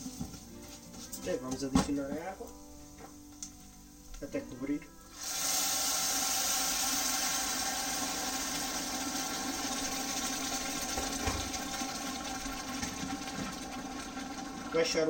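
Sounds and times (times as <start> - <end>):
rice sizzling and boiling in pan: 0.0 - 15.0.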